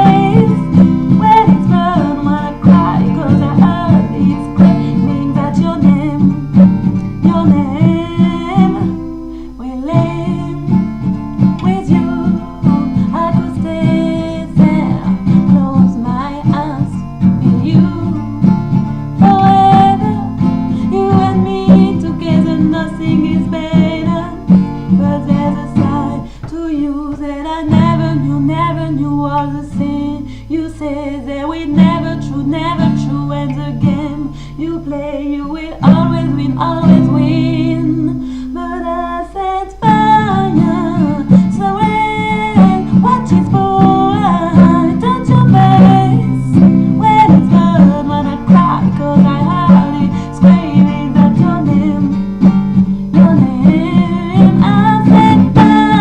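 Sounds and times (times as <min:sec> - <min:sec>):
person singing: 0:00.0 - 0:18.4, 0:19.0 - 0:52.4, 0:53.1 - 0:56.0
acoustic guitar: 0:00.0 - 0:56.0.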